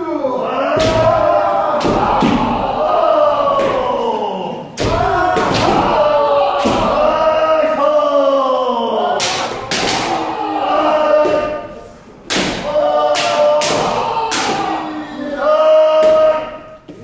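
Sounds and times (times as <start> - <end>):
group shouting long calls: 0.0 - 16.9.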